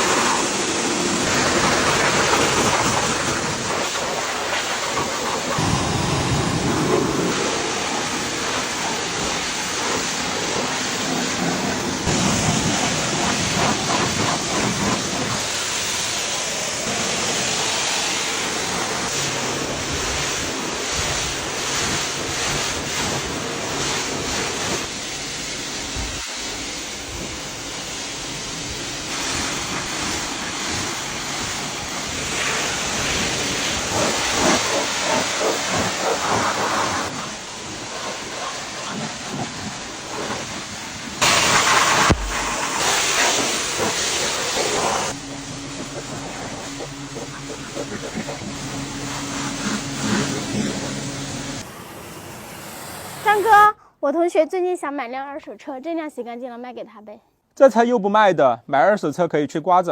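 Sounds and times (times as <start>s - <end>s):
spray hissing: 0.0s - 53.8s.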